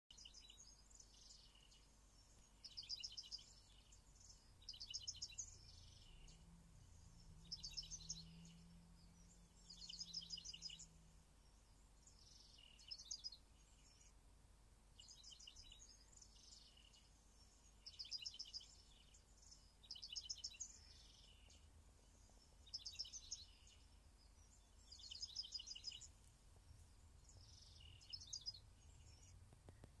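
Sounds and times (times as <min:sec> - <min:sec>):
low steady hum: 0:00.1 - 0:30.0.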